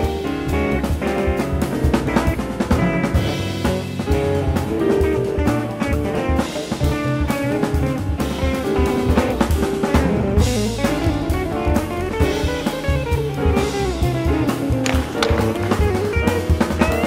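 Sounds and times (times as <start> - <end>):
bass: 0.0 - 17.0
drum kit with cymbals and snare: 0.0 - 17.0
grand piano: 0.0 - 17.0.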